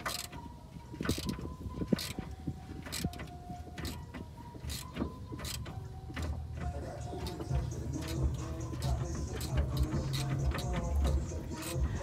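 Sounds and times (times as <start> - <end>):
hand tools clinking on metal: 2.0 - 12.0.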